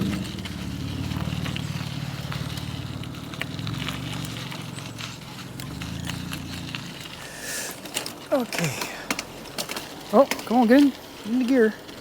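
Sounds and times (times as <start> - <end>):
electric bike motor humming: 0.0 - 9.9
bike clicks and rattles: 0.0 - 12.0.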